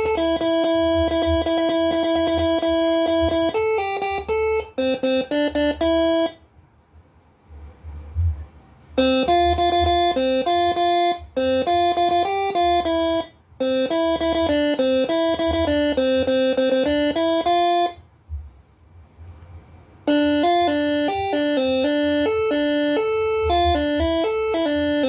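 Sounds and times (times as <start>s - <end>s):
air horn playing melody: 0.0s - 6.4s, 8.9s - 18.0s, 20.0s - 25.0s
faint low rumble: 0.0s - 25.0s.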